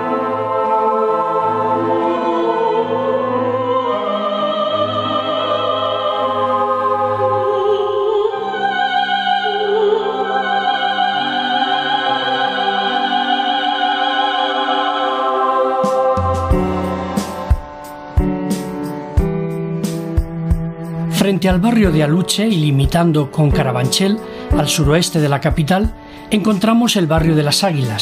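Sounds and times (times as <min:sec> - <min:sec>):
orchestral theme music with choir: 0:00.0 - 0:25.6.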